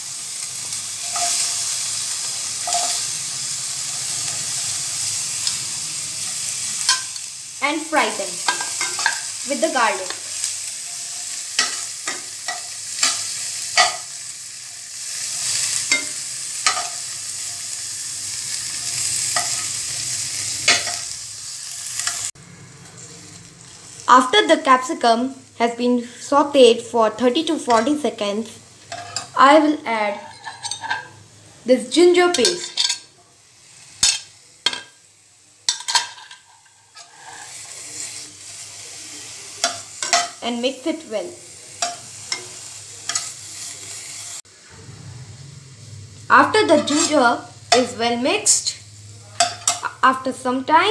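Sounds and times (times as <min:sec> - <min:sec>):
vegetables sizzling in oil: 0:00.0 - 0:50.9
spatula scraping wok: 0:00.4 - 0:07.2, 0:07.8 - 0:24.3, 0:28.8 - 0:31.2, 0:35.7 - 0:50.9.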